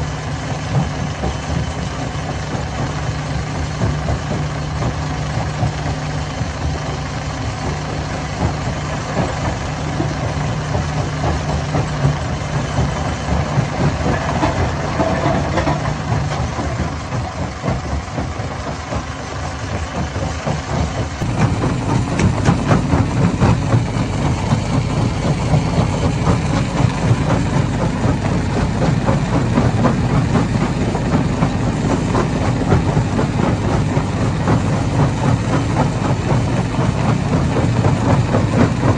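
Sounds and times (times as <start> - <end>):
rapid continuous knocking: 0.0 - 38.9
stone crusher running: 0.0 - 38.9.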